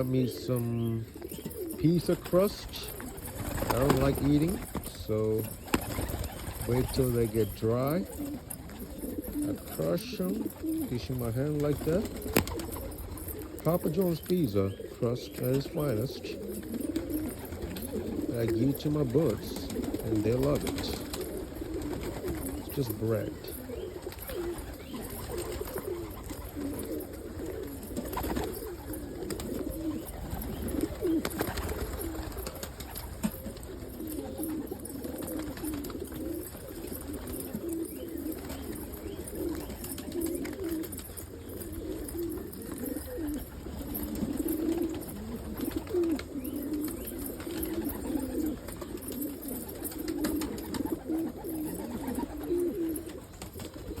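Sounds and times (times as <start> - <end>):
birds cooing: 0.0 - 54.0.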